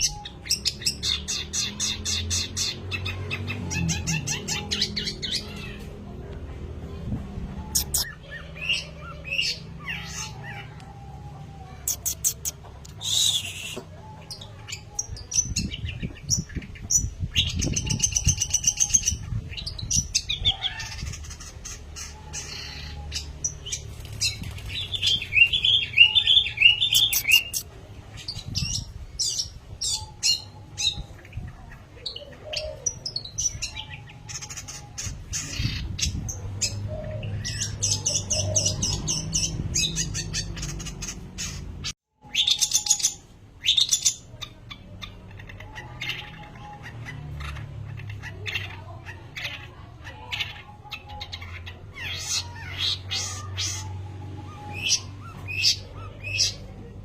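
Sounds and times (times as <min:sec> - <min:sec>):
bird chirping and trilling: 0:00.0 - 0:06.0, 0:06.9 - 0:57.0.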